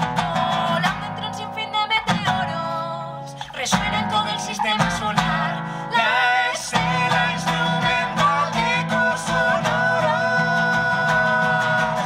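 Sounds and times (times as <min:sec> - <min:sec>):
acoustic guitar: 0:00.0 - 0:12.0
woman singing into a microphone: 0:00.0 - 0:12.0.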